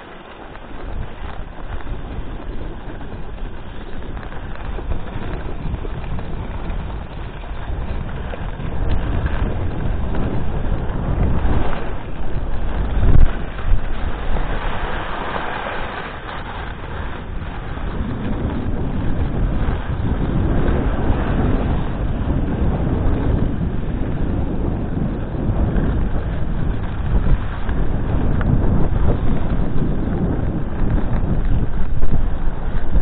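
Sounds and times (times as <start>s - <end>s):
skis scraping packed snow: 0.0s - 33.0s
wind buffeting camera microphone: 0.0s - 33.0s.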